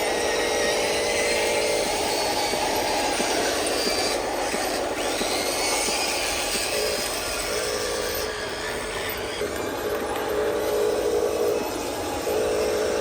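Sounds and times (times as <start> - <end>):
electric motor and gearbox whine: 0.0 - 13.0.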